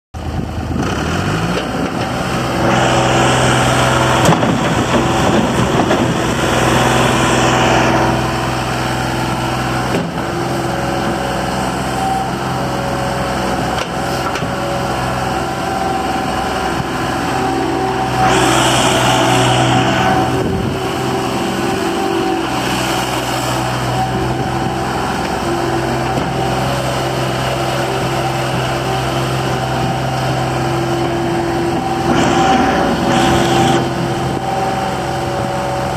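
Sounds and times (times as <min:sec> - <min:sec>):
diesel engine running: 0:00.2 - 0:35.9
loud rushing noise: 0:00.6 - 0:10.4, 0:14.9 - 0:35.9.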